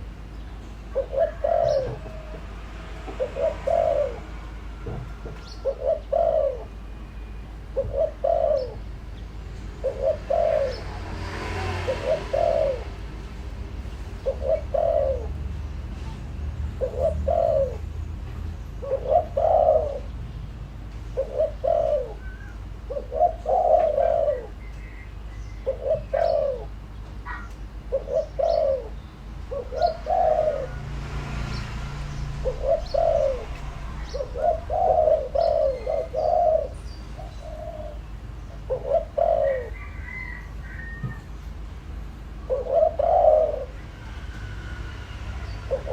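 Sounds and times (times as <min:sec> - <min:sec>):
dove cooing: 0:00.8 - 0:18.0, 0:18.7 - 0:20.2, 0:21.0 - 0:41.4, 0:42.0 - 0:44.4, 0:45.1 - 0:45.9.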